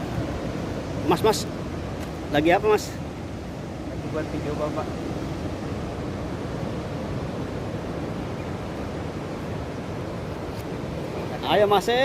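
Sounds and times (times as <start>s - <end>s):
sea surf rushing: 0.0s - 12.0s.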